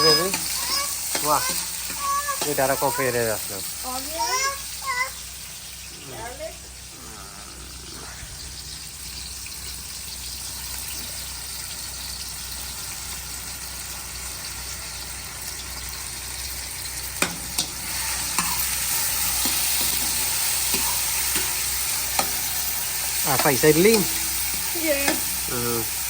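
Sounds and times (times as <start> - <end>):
onion sizzling in hot oil: 0.0 - 26.0.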